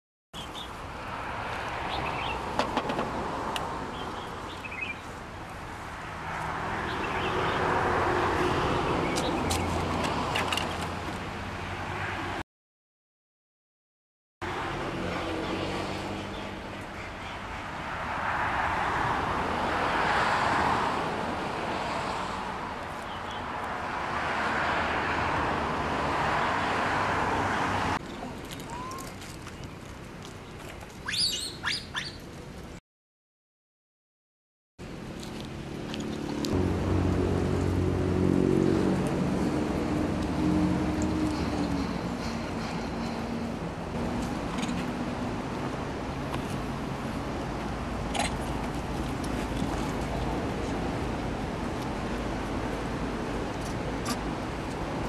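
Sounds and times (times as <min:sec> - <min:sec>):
vehicle noise: 0:00.4 - 0:12.4, 0:14.4 - 0:32.8, 0:34.8 - 0:55.0.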